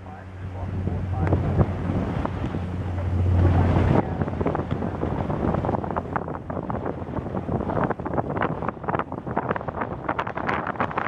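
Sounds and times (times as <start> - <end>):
steady low rumble: 0.0 - 11.0
wind buffeting microphone: 0.0 - 11.0.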